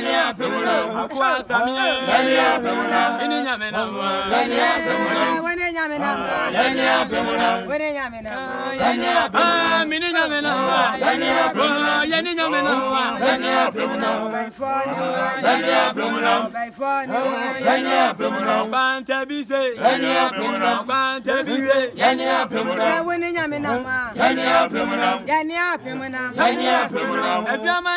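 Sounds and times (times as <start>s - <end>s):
group singing unaccompanied: 0.0s - 27.9s.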